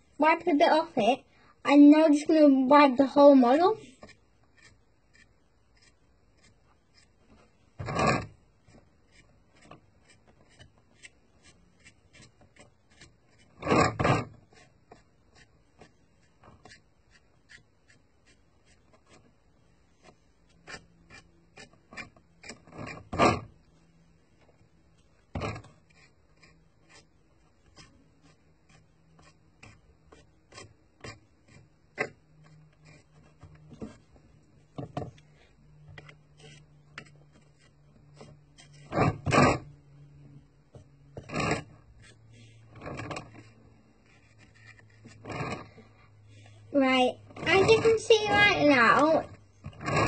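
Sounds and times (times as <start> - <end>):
paintbrush scratching on plastic: 1.7 - 23.6, 25.4 - 34.8, 35.4 - 39.8, 40.7 - 50.0.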